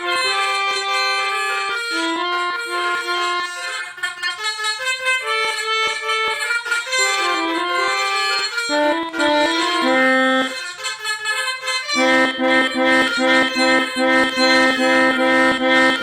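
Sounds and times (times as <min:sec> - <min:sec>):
melodica playing: 0:00.0 - 0:16.0.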